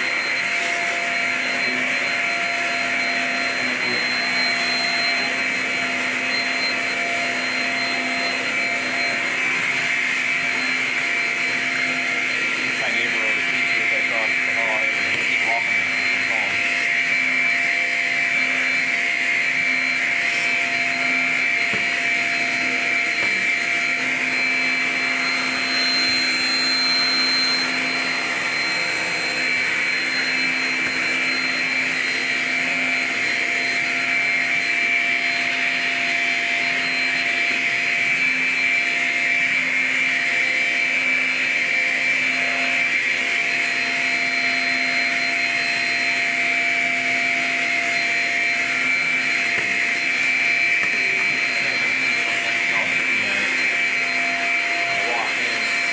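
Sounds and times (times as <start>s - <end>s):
vacuum cleaner motor whine: 0.0s - 55.9s.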